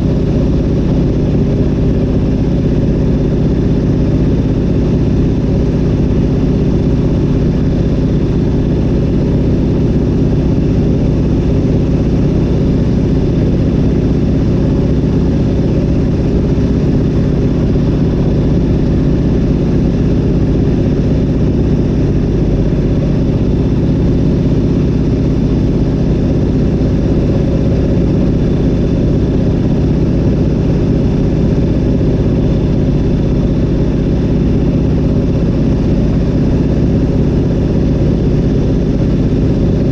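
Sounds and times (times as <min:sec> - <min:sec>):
aircraft radial engine and propeller: 0:00.0 - 0:39.9.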